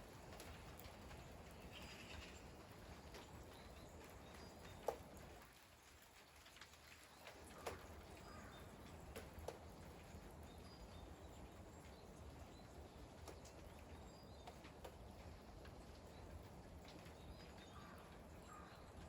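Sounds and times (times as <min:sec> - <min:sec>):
faint steady rain: 0:00.0 - 0:19.0.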